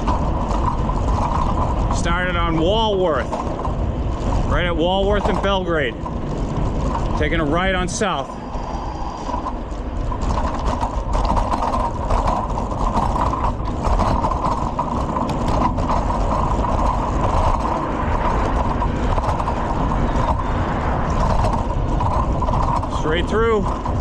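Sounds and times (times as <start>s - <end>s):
bicycle tyre and road rumble: 0.0s - 24.0s
bike clicks and rattles: 0.0s - 24.0s.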